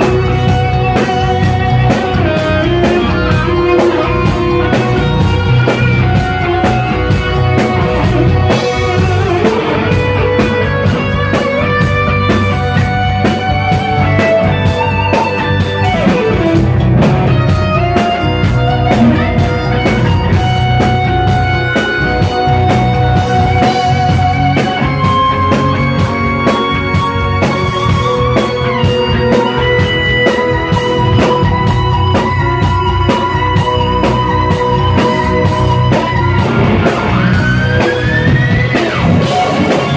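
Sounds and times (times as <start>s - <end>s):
drum kit playing: 0.0s - 39.9s
electric guitar lead melody: 0.0s - 39.9s.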